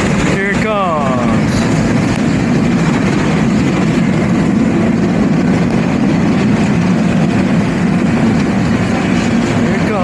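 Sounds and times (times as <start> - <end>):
diesel locomotive rumbling: 0.0 - 10.0.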